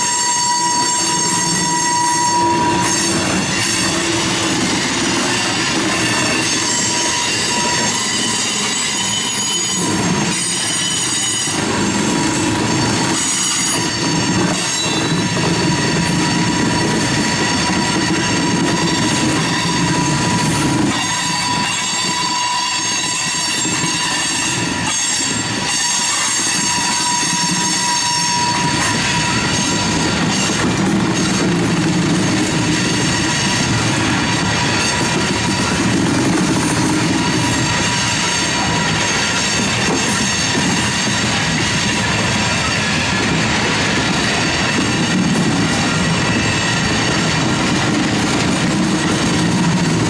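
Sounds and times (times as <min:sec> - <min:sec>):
train rumbling and clacking: 0:00.0 - 0:50.0
train wheels squealing: 0:00.0 - 0:50.0.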